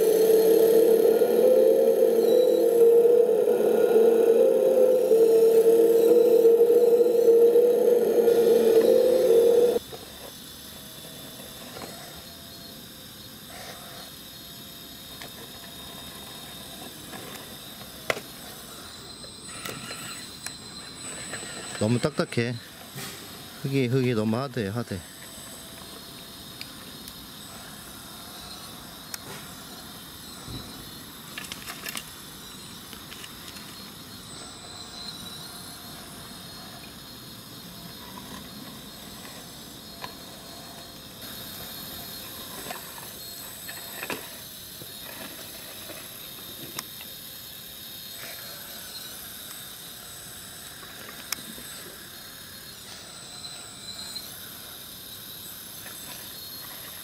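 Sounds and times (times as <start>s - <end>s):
hydraulic pump hiss and whine: 0.0s - 57.0s.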